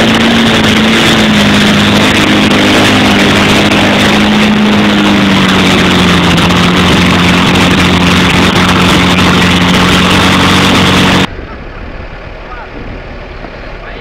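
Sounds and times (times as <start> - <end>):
wheels spinning in mud: 0.0 - 11.3
engine running hard: 0.0 - 14.0.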